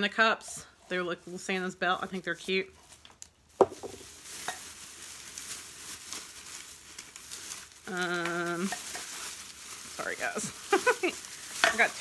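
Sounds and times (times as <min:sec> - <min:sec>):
shopping bag rustling: 0:01.8 - 0:12.0.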